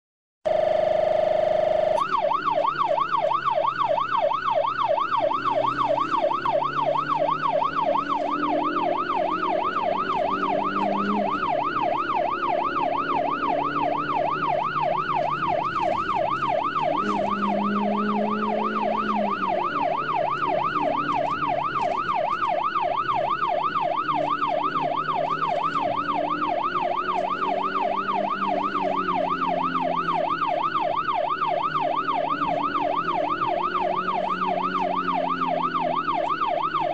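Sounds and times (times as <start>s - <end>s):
police siren yelping: 0.5s - 36.9s
vehicle engine running: 0.5s - 36.9s.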